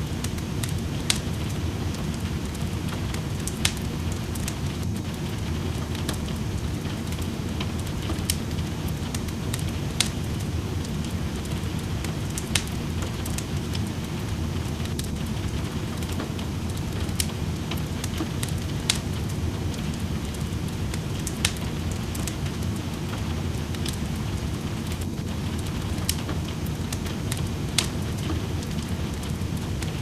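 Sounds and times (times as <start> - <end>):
rain hissing: 0.0 - 30.0
wood fire crackling: 0.0 - 30.0.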